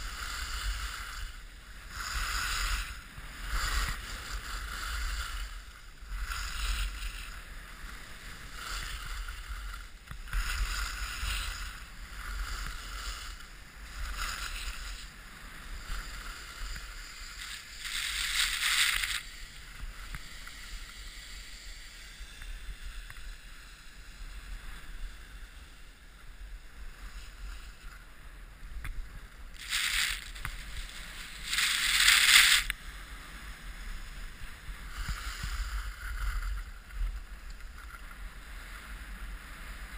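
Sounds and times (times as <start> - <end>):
skis scraping over packed snow: 0.0 - 39.9
wind rumble on microphone: 0.0 - 39.9.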